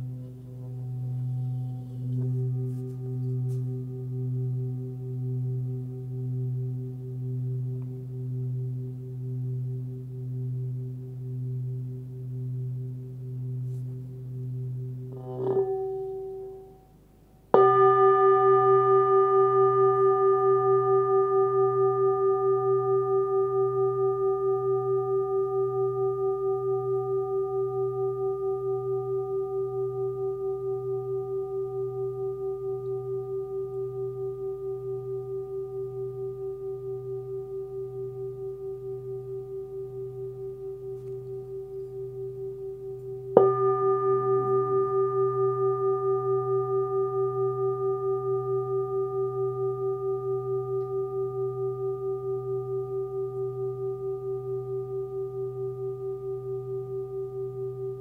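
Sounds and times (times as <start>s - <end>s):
singing bowl ringing: 0.0s - 58.0s.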